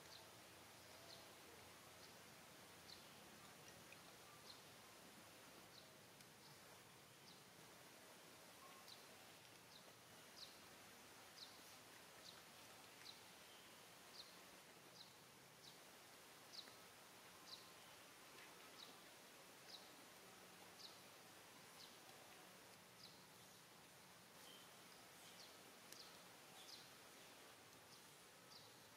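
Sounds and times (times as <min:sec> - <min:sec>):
faint outdoor hiss: 0:00.0 - 0:28.9.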